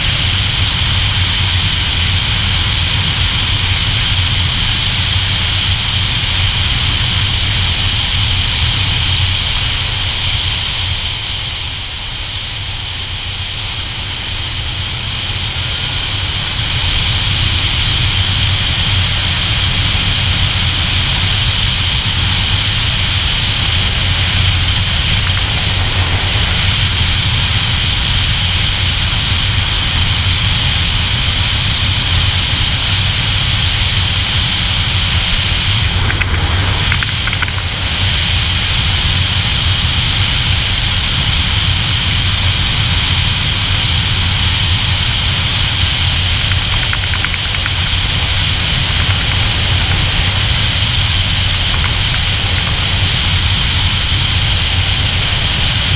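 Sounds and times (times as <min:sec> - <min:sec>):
motorcycle engine running: 0:00.0 - 0:11.7, 0:12.6 - 0:55.9
wind rushing on microphone: 0:00.0 - 0:55.9.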